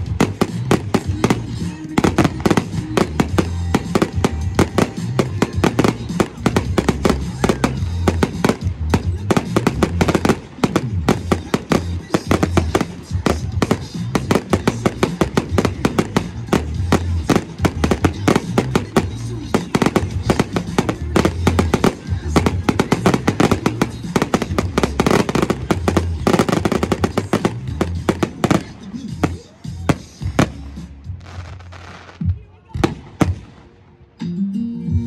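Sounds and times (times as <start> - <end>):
music with heavy bass: 0.0 - 33.5, 34.2 - 35.0
fireworks bangs and crackles: 0.0 - 33.8.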